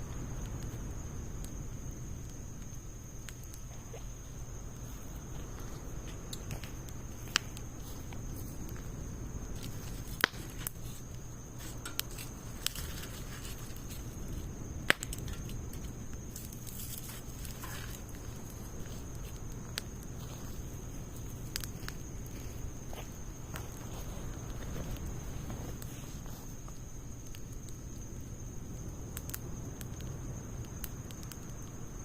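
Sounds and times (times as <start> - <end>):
low background noise: 0.0 - 32.0
wood fire crackling: 0.0 - 32.0.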